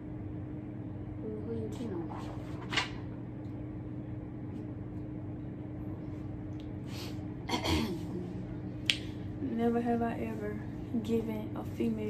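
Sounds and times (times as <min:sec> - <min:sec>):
room noise hum: 0:00.0 - 0:12.0.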